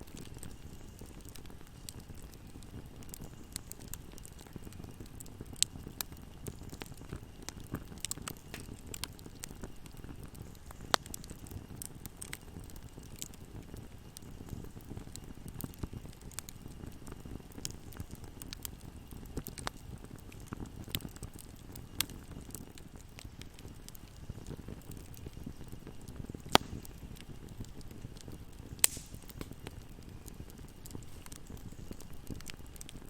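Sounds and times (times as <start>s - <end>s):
fire popping loudly: 0.0s - 33.0s
fireplace fire crackling: 0.0s - 33.0s.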